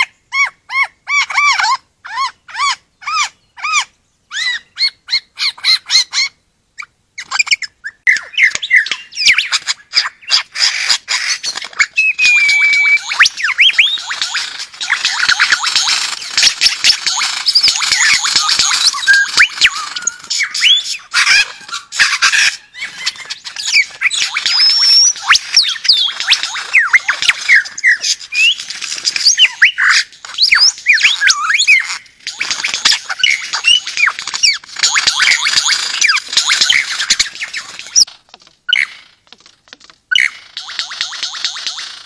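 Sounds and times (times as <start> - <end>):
lyrebird singing: 0.0 - 39.4, 40.1 - 42.0.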